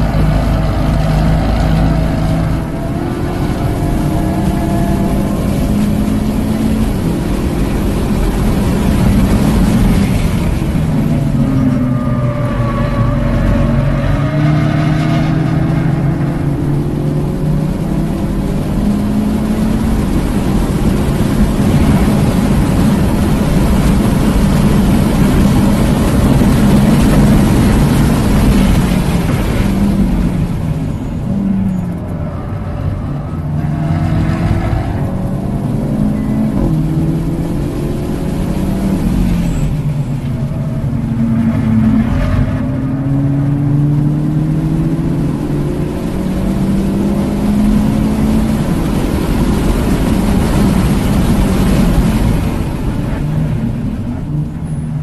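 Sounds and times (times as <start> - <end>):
car engine under hard throttle: 0.0 - 55.0
tyre and wind noise: 0.0 - 55.0.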